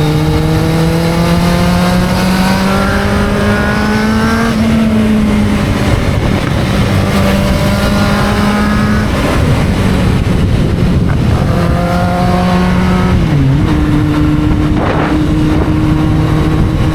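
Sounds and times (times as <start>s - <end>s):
motorcycle engine running: 0.0s - 16.9s
wind rush: 0.0s - 16.9s.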